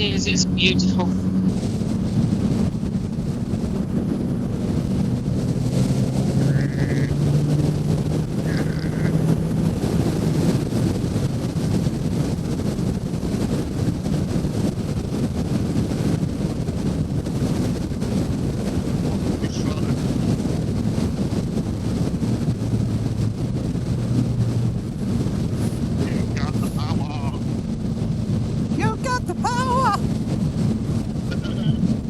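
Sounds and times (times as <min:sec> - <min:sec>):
motorcycle engine: 0:00.0 - 0:32.0
wind rushing over microphone: 0:00.0 - 0:32.0.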